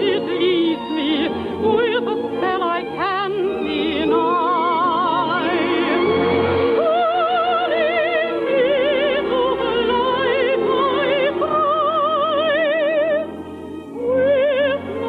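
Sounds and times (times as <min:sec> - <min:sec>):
musical accompaniment: 0:00.0 - 0:15.0
operatic singing with vibrato: 0:00.0 - 0:15.0.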